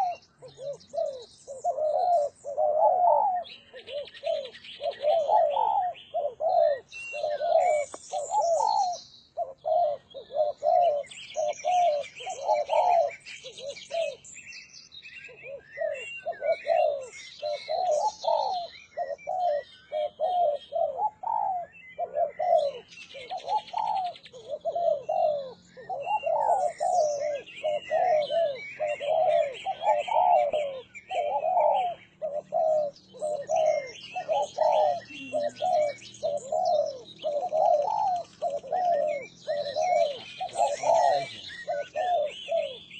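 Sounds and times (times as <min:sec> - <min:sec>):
doves cooing: 0:00.0 - 0:14.4, 0:15.2 - 0:42.9
small birds chirping: 0:00.0 - 0:42.9.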